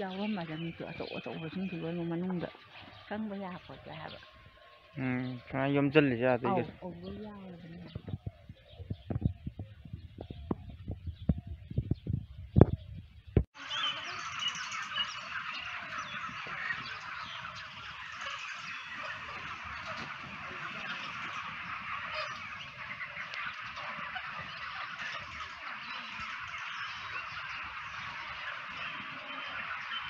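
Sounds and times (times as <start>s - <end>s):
birds chattering: 0.0s - 30.0s.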